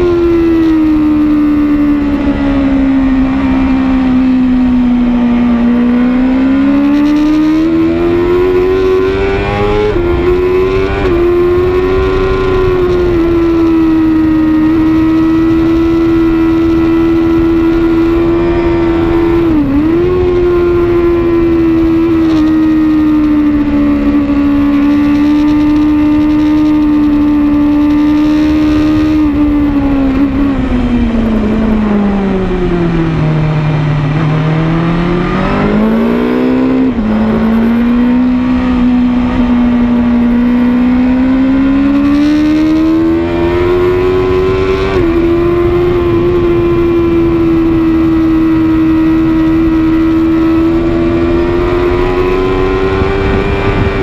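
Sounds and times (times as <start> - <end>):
motorcycle engine revving hard: 0.0 - 54.0
wind rush: 0.0 - 54.0.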